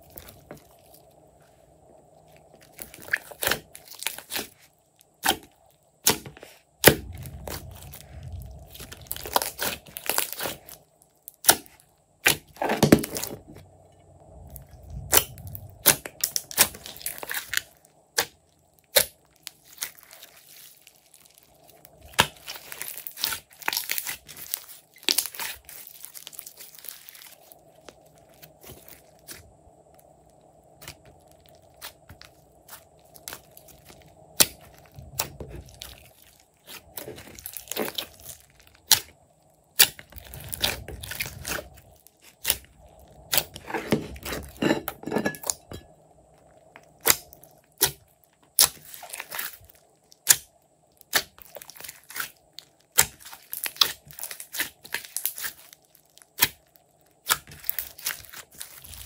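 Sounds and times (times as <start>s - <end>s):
slime squelching: 0.0s - 13.7s, 14.3s - 29.6s, 30.2s - 59.0s.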